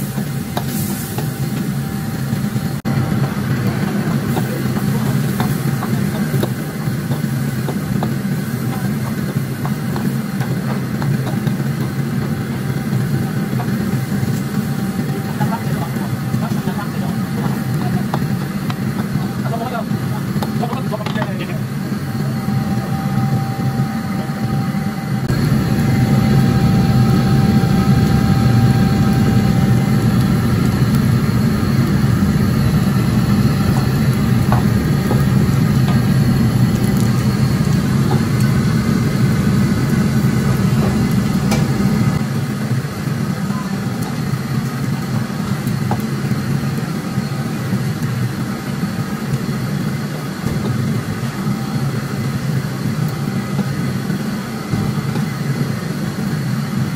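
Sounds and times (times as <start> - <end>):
gas burner roaring: 0.0 - 56.9.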